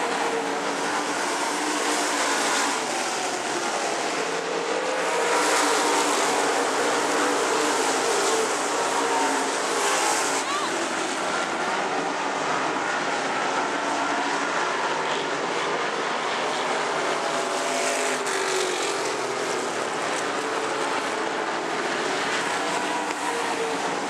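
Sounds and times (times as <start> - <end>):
race car engines: 0.0 - 24.0.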